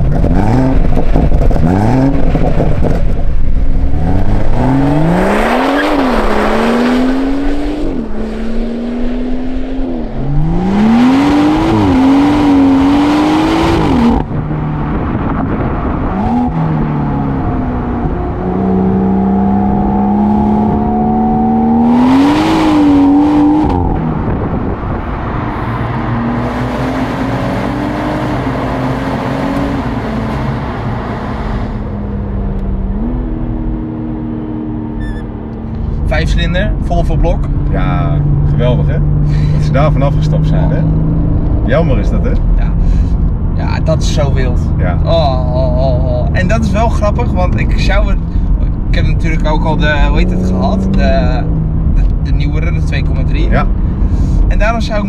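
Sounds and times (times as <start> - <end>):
car engine accelerating through gears: 0.0 - 36.4, 37.4 - 54.5.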